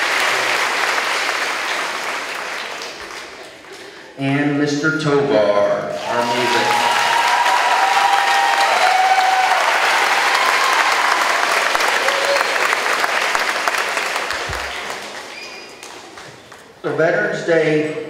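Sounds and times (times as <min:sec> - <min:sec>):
audience applauding: 0:00.0 - 0:03.9, 0:05.9 - 0:16.8.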